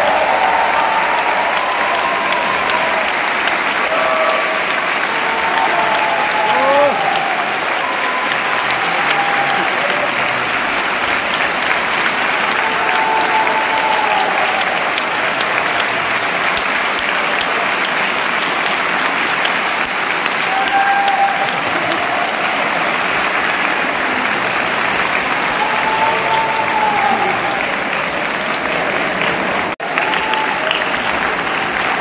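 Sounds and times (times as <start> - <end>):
large audience applauding: 0.0 - 32.0.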